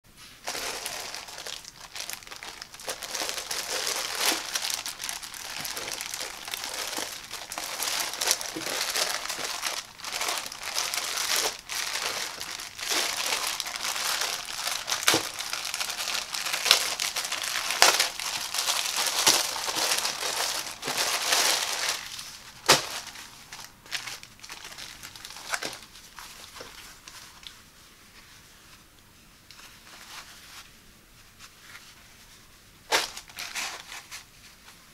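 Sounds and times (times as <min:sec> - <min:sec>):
soft rustling of towels: 0:00.1 - 0:34.9
plastic bag crinkling: 0:00.4 - 0:27.5, 0:32.9 - 0:34.2.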